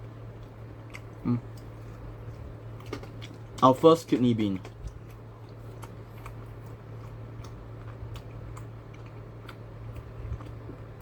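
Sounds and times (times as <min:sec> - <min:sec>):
low steady hum: 0:00.0 - 0:11.0
mouth chewing food: 0:00.0 - 0:11.0.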